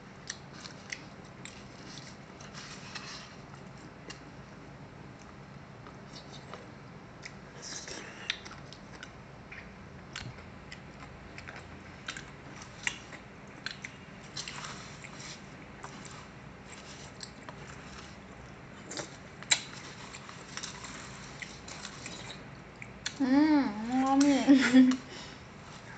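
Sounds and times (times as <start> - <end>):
chewing and crunching: 0.0 - 23.2.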